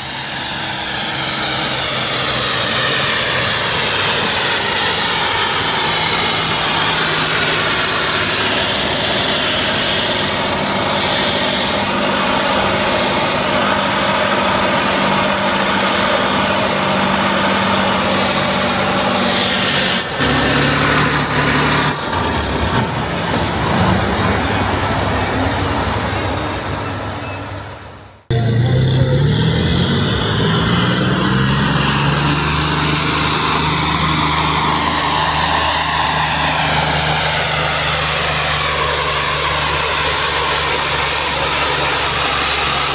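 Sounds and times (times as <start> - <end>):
different engine: 0.0 - 42.9
tractor engine at high revs: 0.0 - 42.9.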